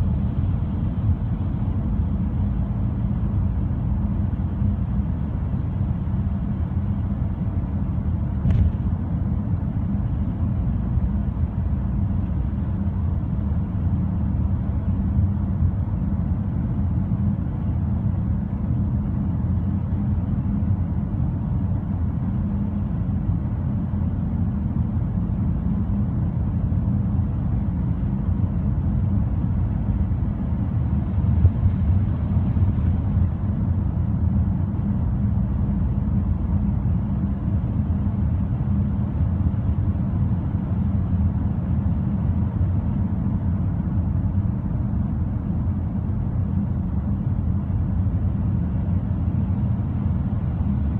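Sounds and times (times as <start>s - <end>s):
car interior road rumble: 0.0s - 50.9s.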